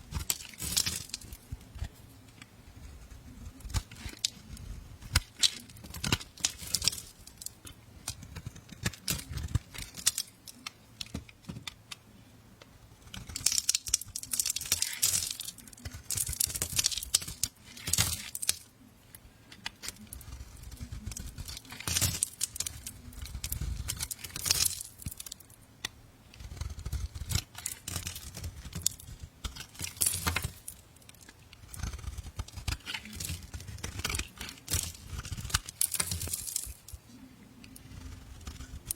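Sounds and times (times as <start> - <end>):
knife scraping soap: 0.1 - 10.3, 13.0 - 18.7, 19.5 - 25.0, 25.8 - 37.0, 37.6 - 38.9.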